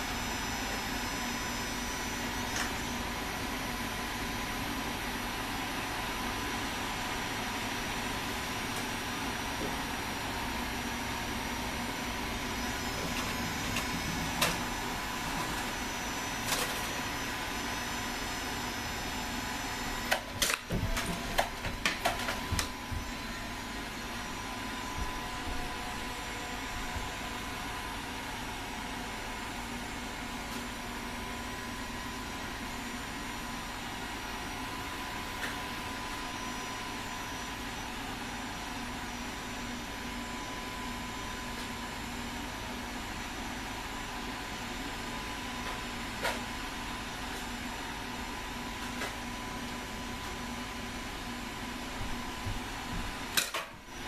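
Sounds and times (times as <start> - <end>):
steady mechanical hum: 0.0 - 54.0.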